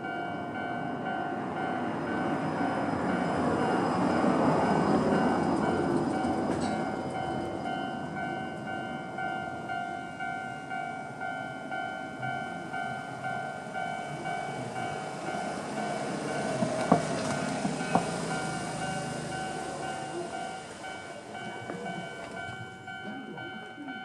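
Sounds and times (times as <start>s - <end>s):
railway crossing alarm dinging: 0.0s - 24.0s
train rumbling over crossing: 0.0s - 24.0s.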